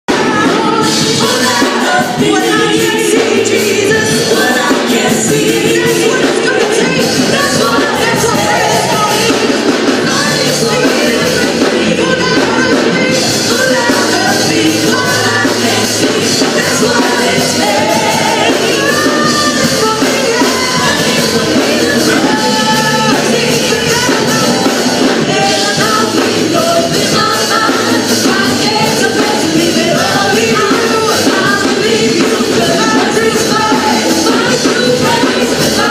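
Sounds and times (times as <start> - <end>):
electronic keyboard: 0.1 - 35.9
person singing: 0.1 - 35.9.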